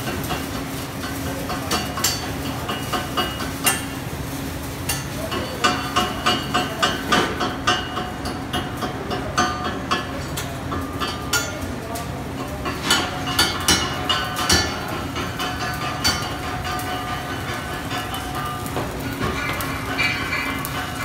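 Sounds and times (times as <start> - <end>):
workshop background din: 0.0 - 21.0.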